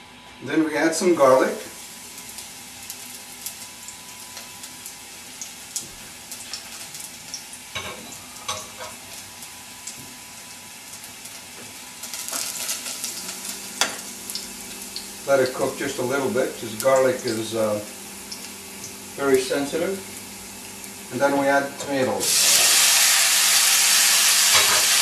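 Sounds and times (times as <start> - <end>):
garlic sizzling in hot oil: 1.3 - 25.0.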